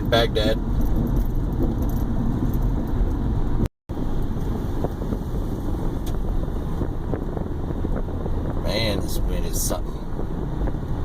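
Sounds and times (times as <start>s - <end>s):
wind buffeting microphone: 0.6s - 11.0s.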